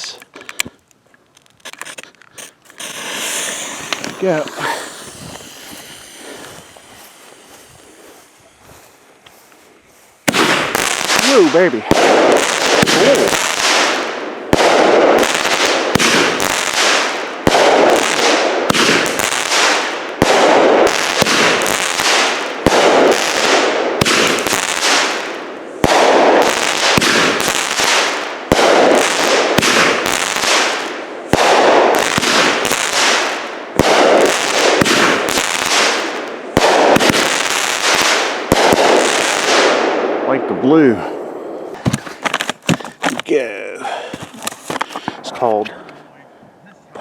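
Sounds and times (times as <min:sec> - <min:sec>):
fireworks shots: 0:02.4 - 0:09.5, 0:10.2 - 0:43.3.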